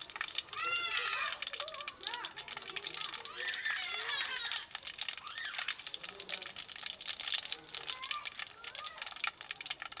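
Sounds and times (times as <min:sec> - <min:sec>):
faint voices: 0:00.0 - 0:10.0
seeds crackling and popping: 0:00.0 - 0:10.0.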